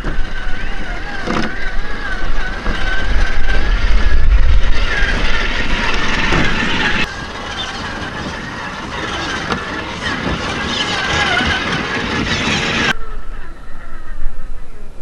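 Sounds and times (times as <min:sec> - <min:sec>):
electric motor and gearbox whining: 0:00.0 - 0:13.0
low rumble: 0:00.0 - 0:15.0.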